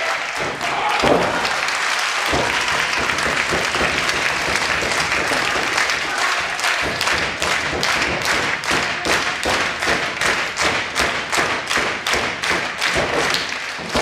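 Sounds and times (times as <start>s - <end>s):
crowd clapping in rhythm: 0.0s - 14.0s.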